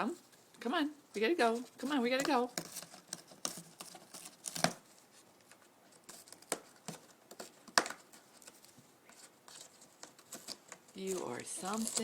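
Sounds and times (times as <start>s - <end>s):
cockatoo tearing cardboard: 1.5s - 5.2s, 6.0s - 12.0s.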